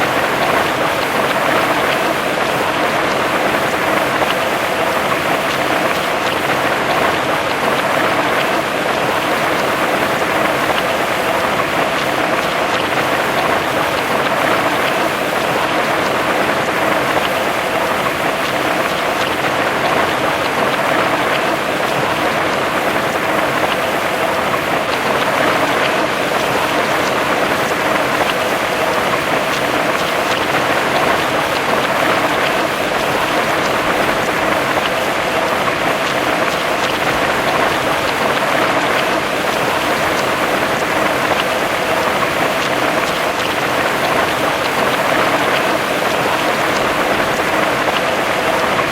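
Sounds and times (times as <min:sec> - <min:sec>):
heavy rain on hard surfaces: 0:00.0 - 0:48.9.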